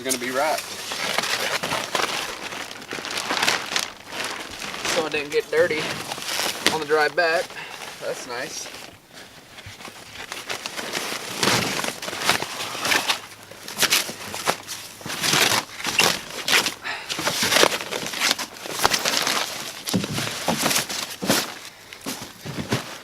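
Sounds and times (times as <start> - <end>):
plastic wrap crinkling and ripping: 0.0 - 23.0.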